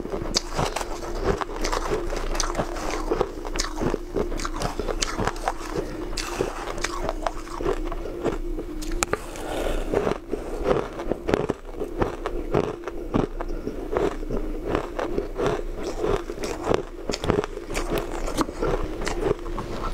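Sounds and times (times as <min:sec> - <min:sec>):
ice crunching between teeth: 0:00.0 - 0:19.9.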